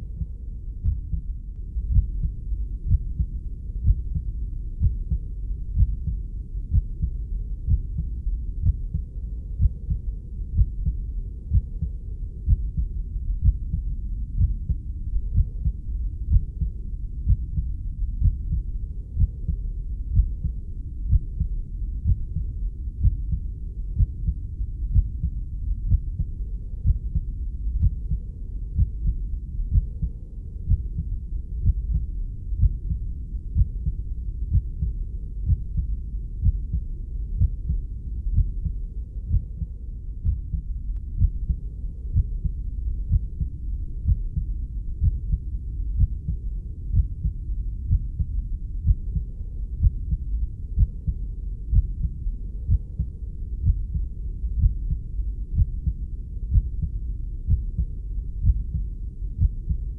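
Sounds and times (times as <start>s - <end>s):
muffled deep heartbeat: 0.0s - 59.9s.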